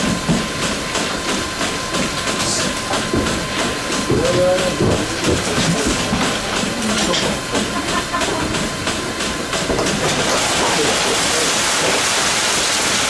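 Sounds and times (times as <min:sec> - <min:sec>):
milking machine vacuum hiss: 0:00.0 - 0:13.0.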